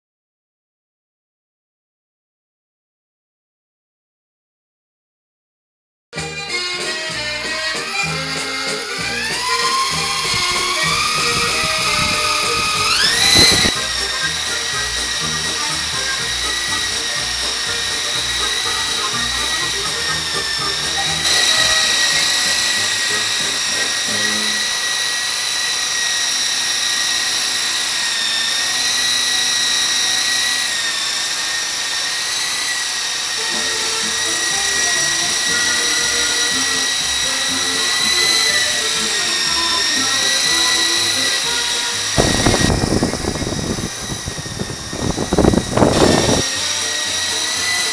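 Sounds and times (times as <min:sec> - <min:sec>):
rc helicopter motor whine: 0:06.2 - 0:47.9.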